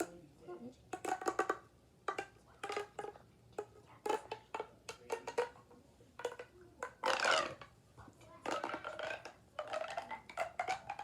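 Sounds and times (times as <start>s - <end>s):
plastic toys clicking and clattering: 1.0s - 7.7s, 8.3s - 11.0s.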